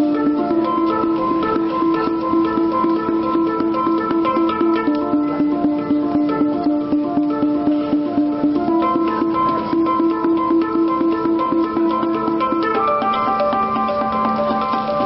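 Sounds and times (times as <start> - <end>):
hang drum notes: 0.0 - 15.0.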